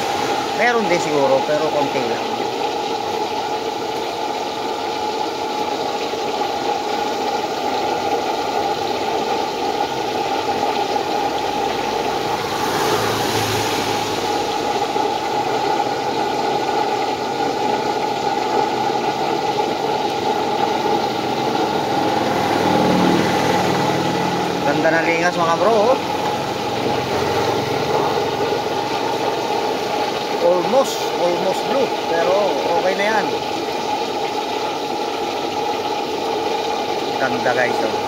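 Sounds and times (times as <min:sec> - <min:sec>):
stove flame roaring: 0:00.0 - 0:38.0.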